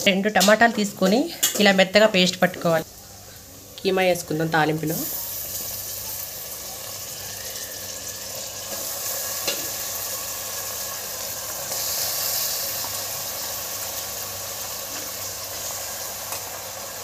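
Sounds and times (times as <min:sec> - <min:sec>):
minced meat sizzling in hot oil: 0:01.4 - 0:17.0.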